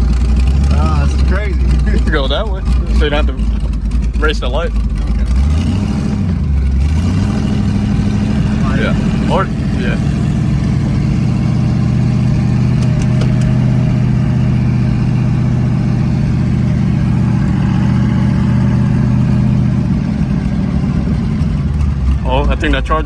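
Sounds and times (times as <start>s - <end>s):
car engine running steadily: 0.0s - 23.0s.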